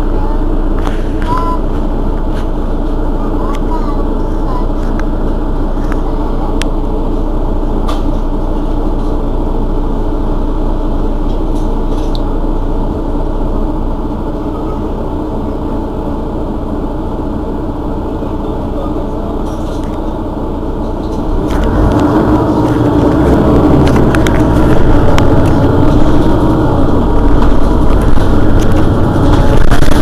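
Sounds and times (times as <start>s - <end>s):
bus engine idling: 0.0s - 30.0s.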